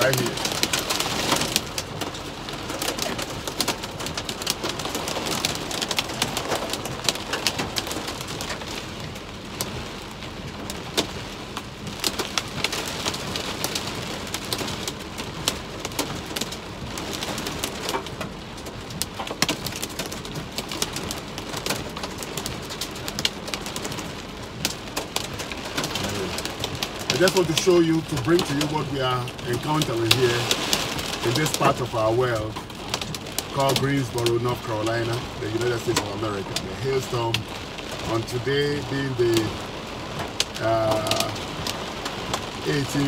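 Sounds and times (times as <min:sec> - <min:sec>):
rain and hail on car roof: 0:00.0 - 0:43.0.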